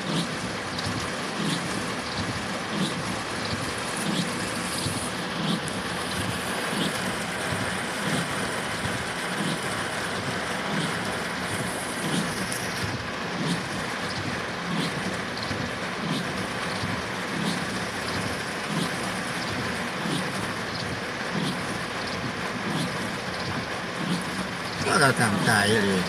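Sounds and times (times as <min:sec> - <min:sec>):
soft repeating swish: 0:00.0 - 0:24.5
heavy rain and rushing water: 0:00.0 - 0:26.0.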